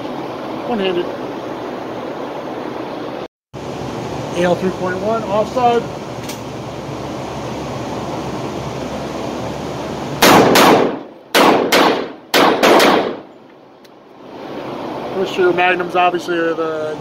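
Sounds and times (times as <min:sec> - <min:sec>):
ventilation hiss: 0:00.0 - 0:17.0.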